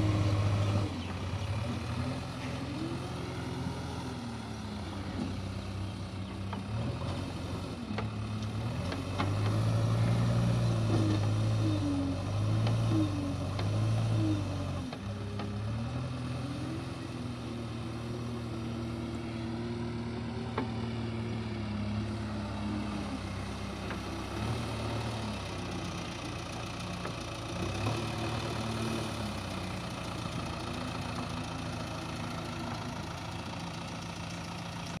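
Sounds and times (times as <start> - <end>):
diesel engine running at low revs: 0.0 - 35.0.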